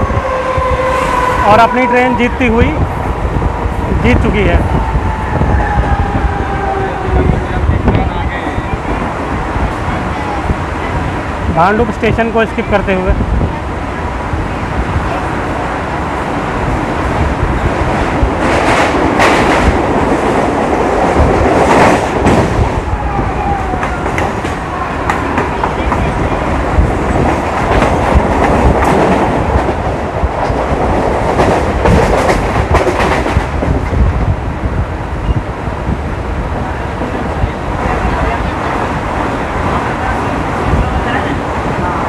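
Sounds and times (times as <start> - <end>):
train wheels rattling on track: 0.0 - 42.0.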